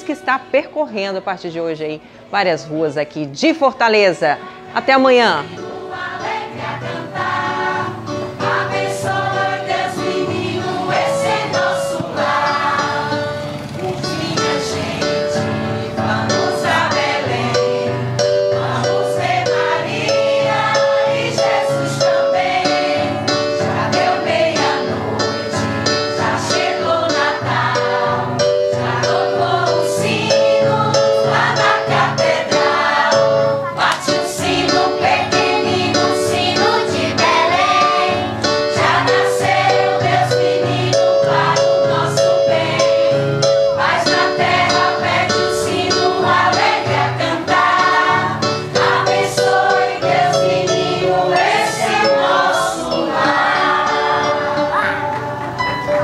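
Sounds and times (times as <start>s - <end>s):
instrumental backing: 3.6s - 56.0s
choir singing a carol: 3.9s - 55.2s.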